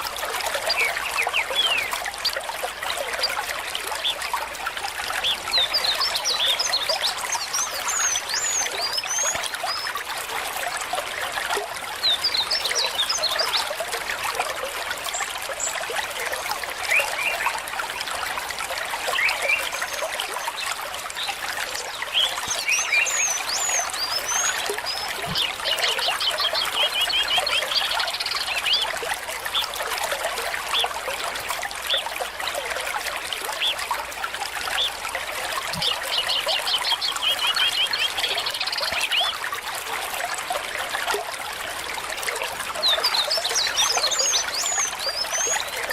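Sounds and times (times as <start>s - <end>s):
stream trickling: 0.0s - 45.9s.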